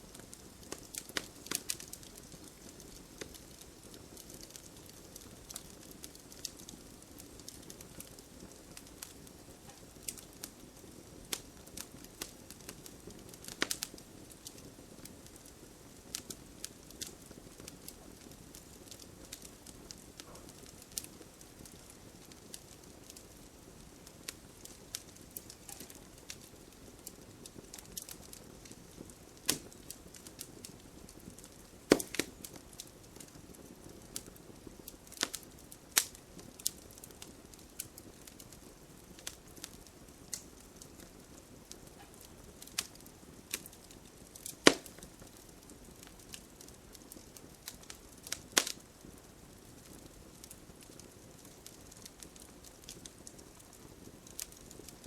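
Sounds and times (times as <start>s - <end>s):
campfire hissing: 0.0s - 55.0s
wood crackling and popping: 0.0s - 55.0s.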